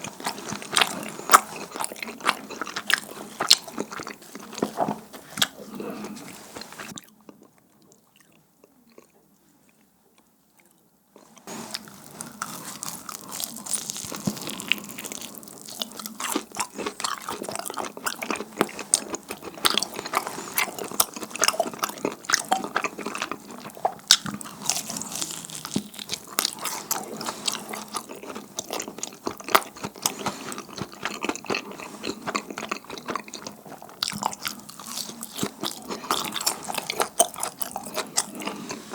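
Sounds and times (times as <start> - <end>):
chewing sticky dumplings: 0.0 - 38.9.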